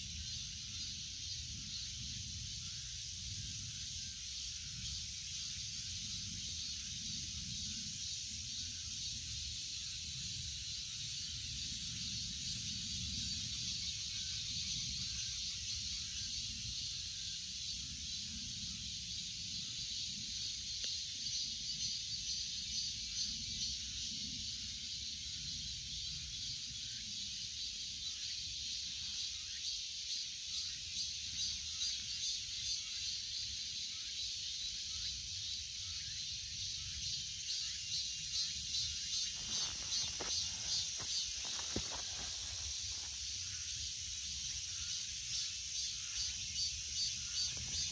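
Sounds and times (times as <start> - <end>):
cicadas droning: 0.0 - 47.9.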